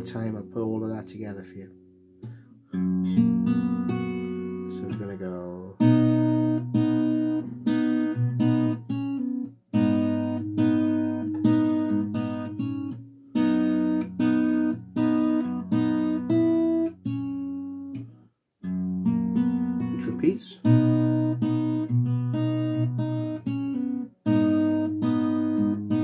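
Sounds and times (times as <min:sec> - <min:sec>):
fingerstyle acoustic guitar: 0:02.1 - 0:26.0.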